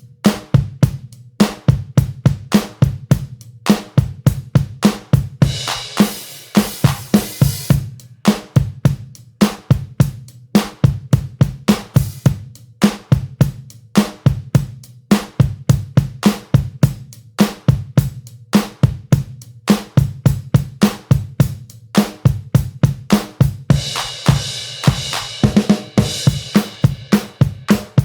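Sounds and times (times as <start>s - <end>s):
drum beat music: 0.0s - 28.0s.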